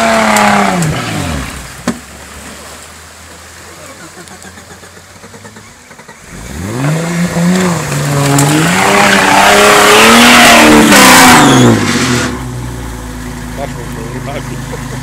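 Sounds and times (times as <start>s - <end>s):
off-road vehicle engine revving: 0.0s - 2.6s, 3.7s - 15.0s.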